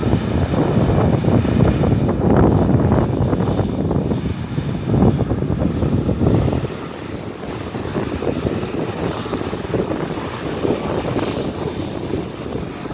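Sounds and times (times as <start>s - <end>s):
jet engines rumbling: 0.0s - 12.9s.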